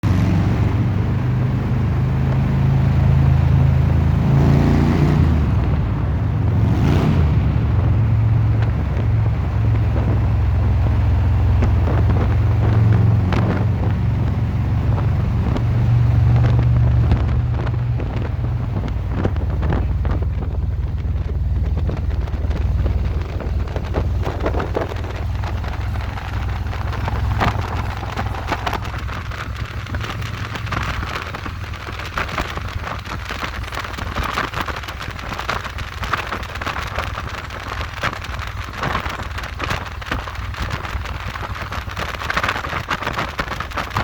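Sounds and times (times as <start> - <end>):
motorcycle engine running: 0.0 - 44.0
wind buffeting microphone: 5.2 - 44.0.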